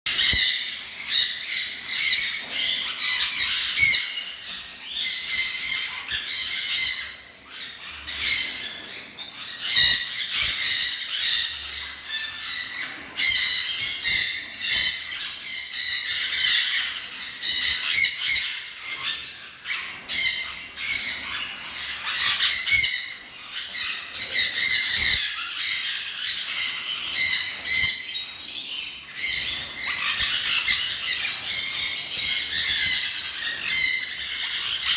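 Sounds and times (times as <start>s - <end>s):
caged birds chattering and squawking: 0.1s - 34.9s.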